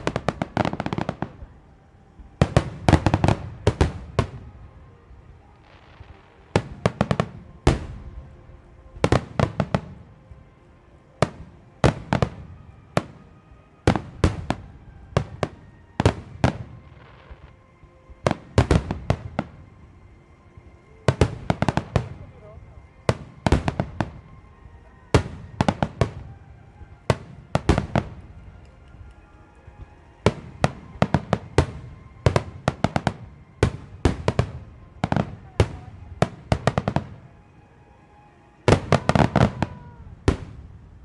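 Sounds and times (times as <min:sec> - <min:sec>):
fireworks bursting with sharp bangs: 0:00.0 - 0:10.2, 0:11.1 - 0:19.8, 0:20.6 - 0:37.3, 0:38.6 - 0:40.8.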